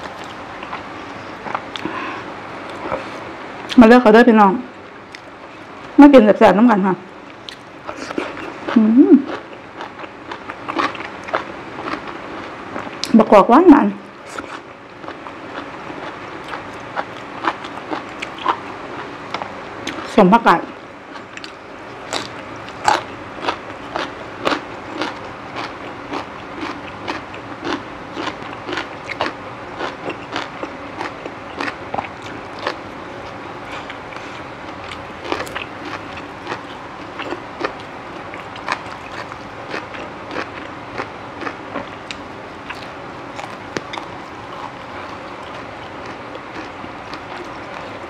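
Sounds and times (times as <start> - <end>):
chewing crunchy food: 0.0 - 3.8, 5.0 - 6.0, 7.2 - 13.2, 14.0 - 48.0.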